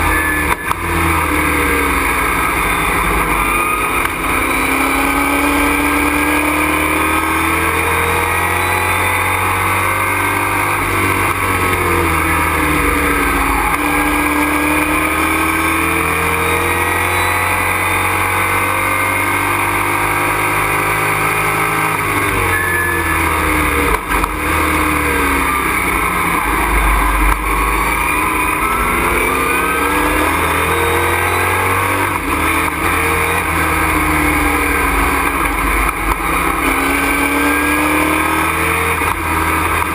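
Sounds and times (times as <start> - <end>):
truck engine accelerating: 0.0 - 39.9.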